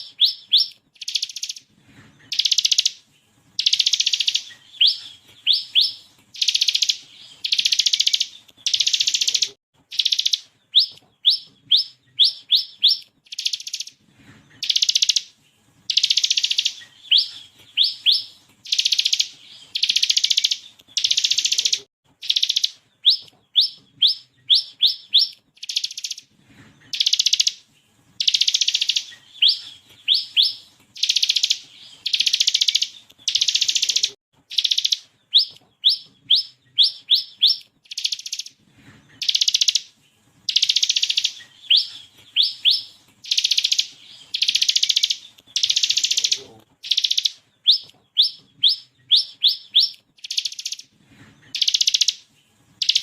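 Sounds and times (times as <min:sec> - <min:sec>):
bird singing sharp trills: 0:00.0 - 0:03.0, 0:03.6 - 0:14.0, 0:14.6 - 0:15.3, 0:15.9 - 0:27.6, 0:28.2 - 0:50.9, 0:51.5 - 0:53.0.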